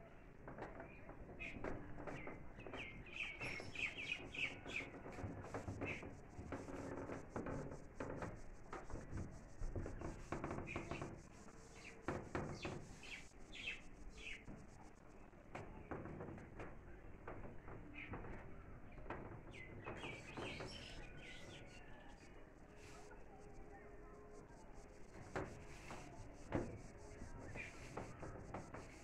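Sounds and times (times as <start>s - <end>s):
small birds chirping: 0.1s - 16.0s, 17.0s - 29.0s.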